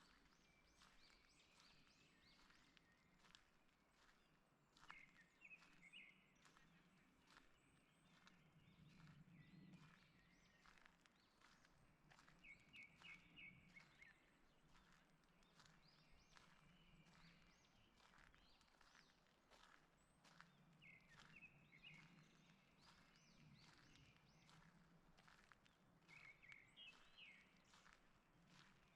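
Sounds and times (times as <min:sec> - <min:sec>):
footsteps on forest path: 0:00.0 - 0:28.9
small birds chirping: 0:00.0 - 0:28.9.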